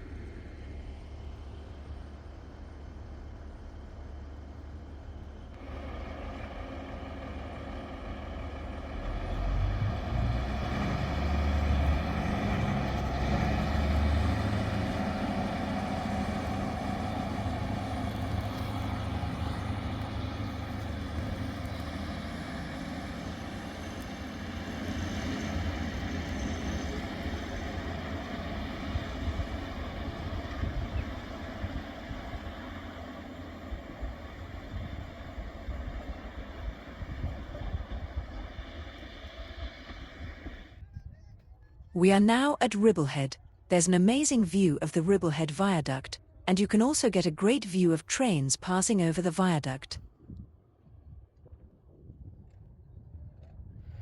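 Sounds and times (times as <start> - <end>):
diesel train engine rumbling: 0.0 - 40.8, 42.0 - 50.0.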